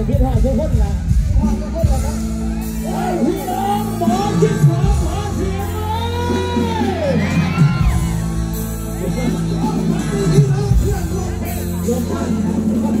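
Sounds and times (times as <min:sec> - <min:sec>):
live band music over speakers: 0:00.0 - 0:13.0.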